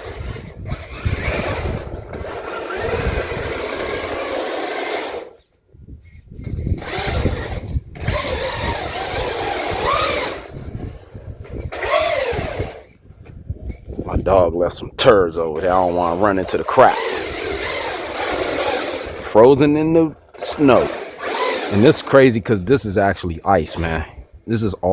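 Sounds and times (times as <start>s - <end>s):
electric motor whining: 0.0s - 14.3s, 15.4s - 24.3s.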